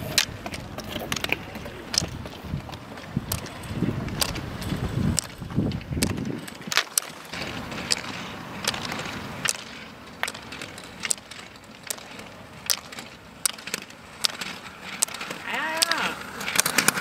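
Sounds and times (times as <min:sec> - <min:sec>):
roller-ski wheels rolling hiss: 0:00.0 - 0:17.0
ski pole tips clicking on asphalt: 0:00.0 - 0:17.0.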